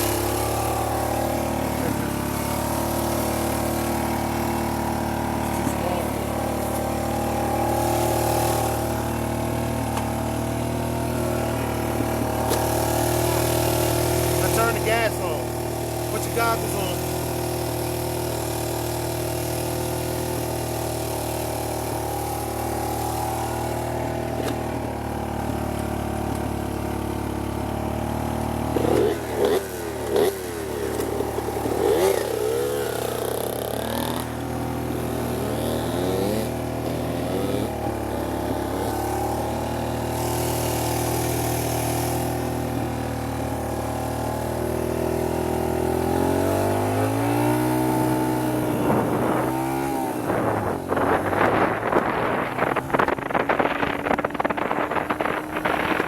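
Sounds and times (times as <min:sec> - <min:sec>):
dirt bike engine idling and revving: 0:00.0 - 0:56.0.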